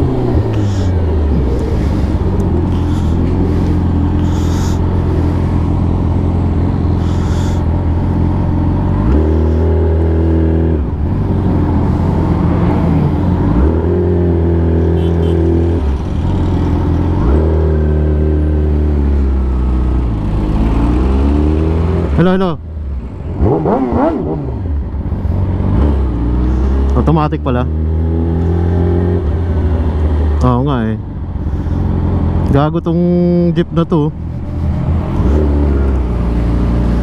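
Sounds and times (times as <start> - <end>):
motorcycle engine revving: 0.0 - 30.6, 34.1 - 37.0.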